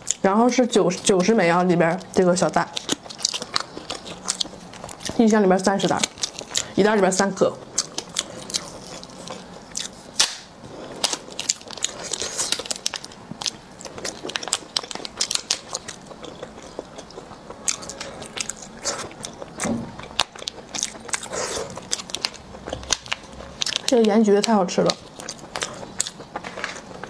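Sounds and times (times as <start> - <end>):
biting and chewing: 0.0 - 27.0.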